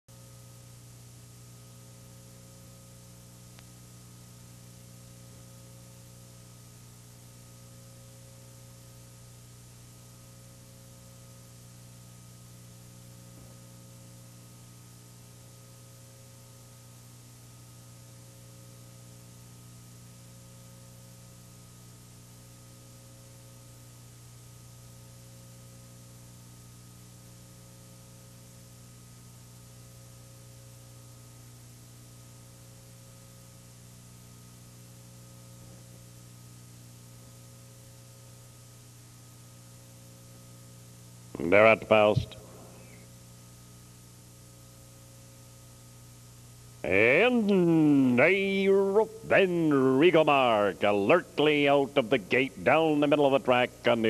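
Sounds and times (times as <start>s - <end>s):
electrical mains hum: 0.1s - 54.0s
tape hiss: 0.1s - 54.0s.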